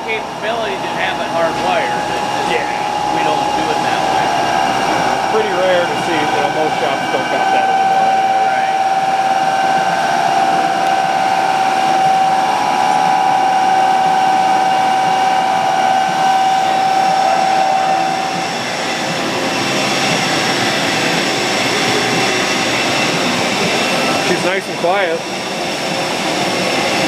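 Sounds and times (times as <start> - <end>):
lathe mechanical whine: 0.0 - 27.0.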